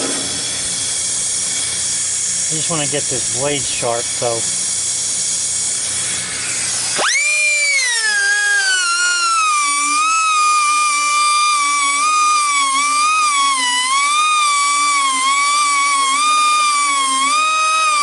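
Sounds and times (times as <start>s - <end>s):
high-speed grinder whining: 0.0s - 18.0s.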